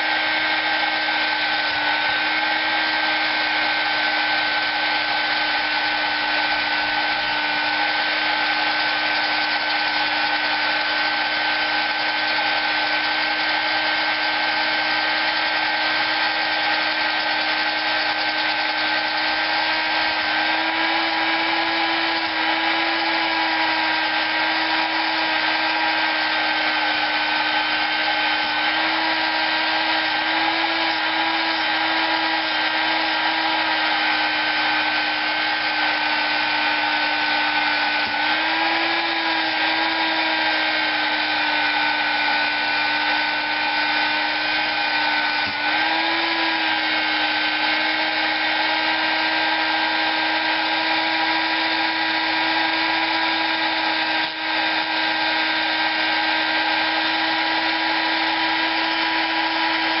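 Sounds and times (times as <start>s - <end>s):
rotary tool whirring: 0.0s - 60.0s.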